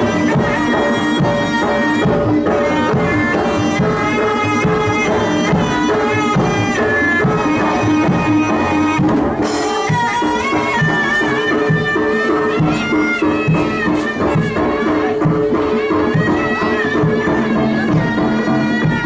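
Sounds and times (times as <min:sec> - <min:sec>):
hand drums playing: 0:00.0 - 0:19.0
pitched metal notes: 0:00.0 - 0:19.0.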